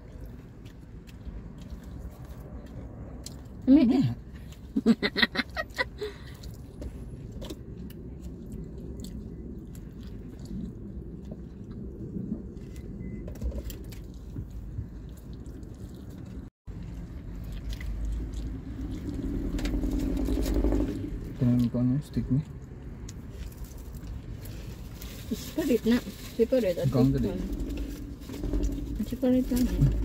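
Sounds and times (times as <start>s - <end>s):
chewing fried chicken: 0.0s - 12.8s, 13.8s - 20.8s, 21.4s - 26.2s
low rumble: 0.0s - 30.0s.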